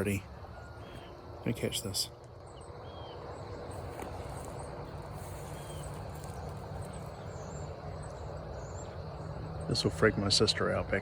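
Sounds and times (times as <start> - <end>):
faint bird or insect chirps: 0.1 - 10.2.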